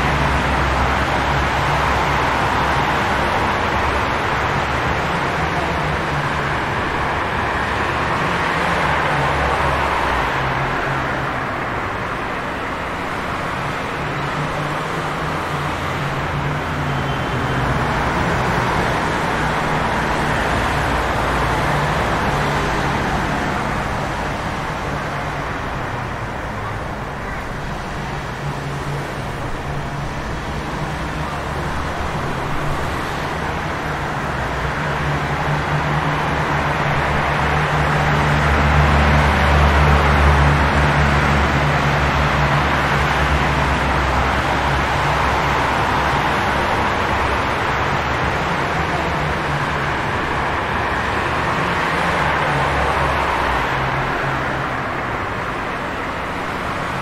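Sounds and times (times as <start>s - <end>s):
rain: 0.0s - 57.0s
traffic: 0.0s - 57.0s.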